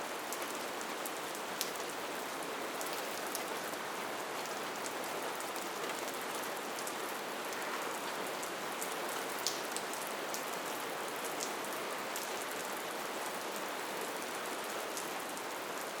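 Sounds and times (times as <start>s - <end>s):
rain pattering on a surface: 0.0s - 16.0s.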